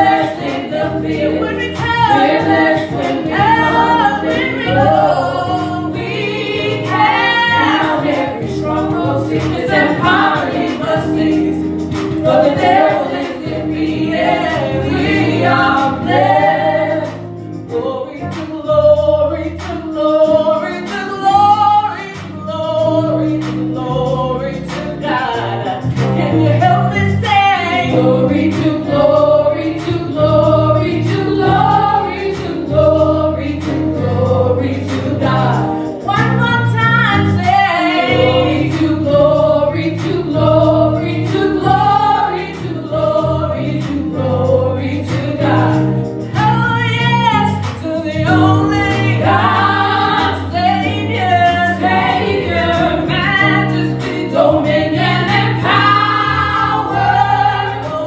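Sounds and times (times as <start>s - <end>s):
music with steady beat: 0.0s - 58.0s
women singing in harmony: 0.0s - 58.0s.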